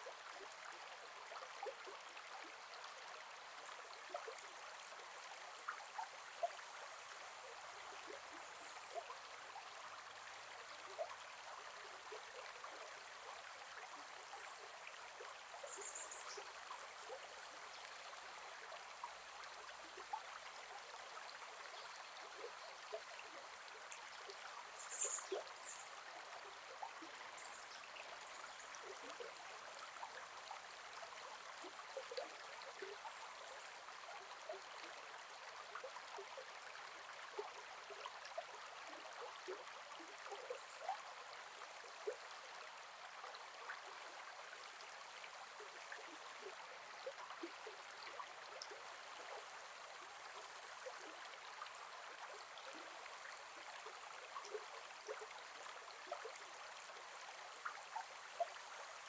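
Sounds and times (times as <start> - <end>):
forest river flowing: 0.0 - 59.0.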